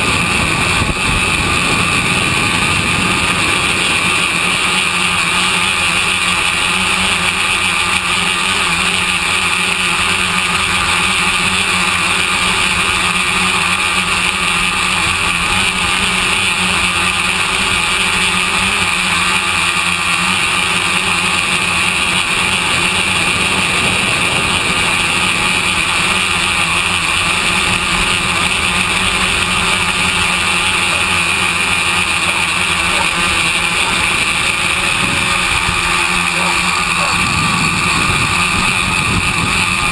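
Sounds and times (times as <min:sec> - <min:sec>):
drone motors and propellers whining: 0:00.0 - 0:39.9.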